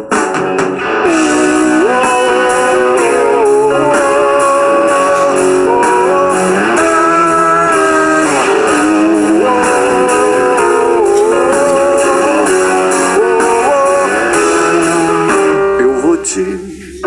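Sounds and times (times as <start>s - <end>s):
lead guitar melody with bent notes: 0.0s - 17.0s
strummed guitar chords: 0.0s - 17.0s.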